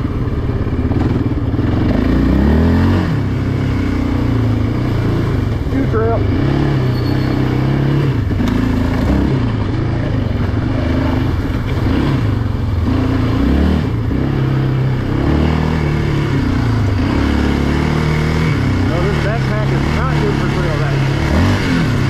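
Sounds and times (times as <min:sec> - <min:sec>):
atv engine revving while riding: 0:00.0 - 0:22.0.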